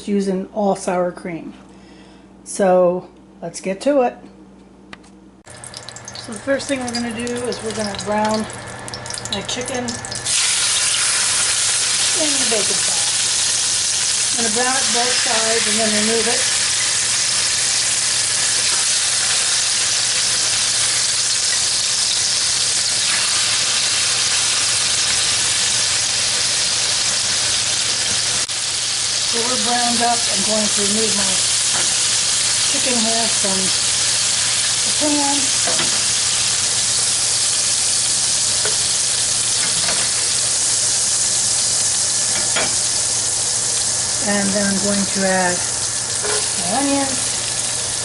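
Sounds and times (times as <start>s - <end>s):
chicken sizzling in a pan: 5.5s - 48.0s.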